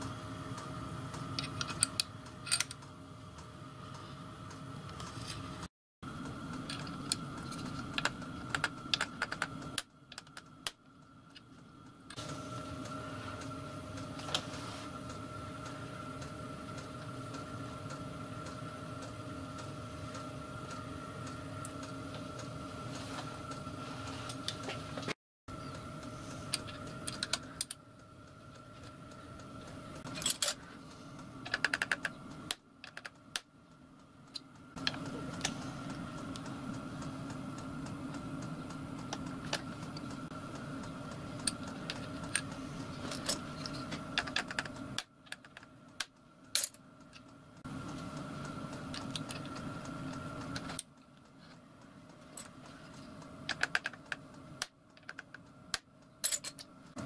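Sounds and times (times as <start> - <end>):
steady workshop hum: 0.0 - 57.0.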